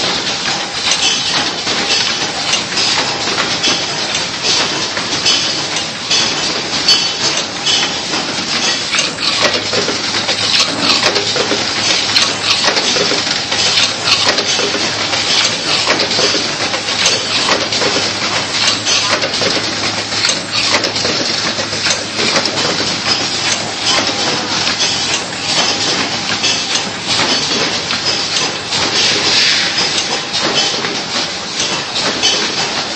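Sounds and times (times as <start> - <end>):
packaging machine clattering: 0.0 - 32.9.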